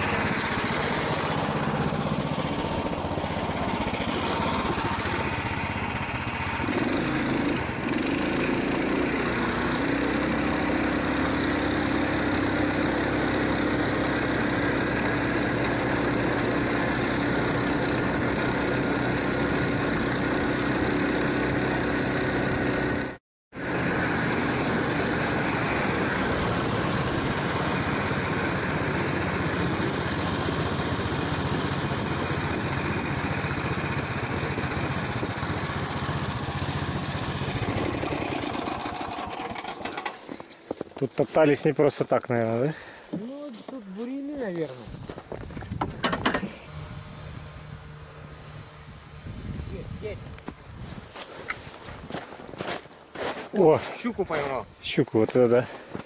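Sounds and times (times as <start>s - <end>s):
snow vehicle engine running: 0.0s - 56.0s.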